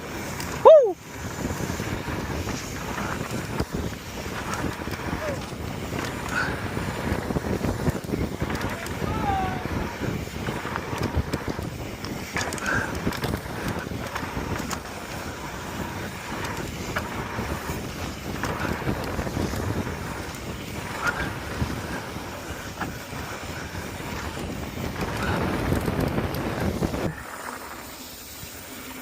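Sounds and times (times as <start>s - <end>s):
wind buffeting microphone: 0.0s - 27.2s
bike riding on dirt trail: 0.0s - 29.0s
bike knocks and clicks: 1.5s - 27.0s.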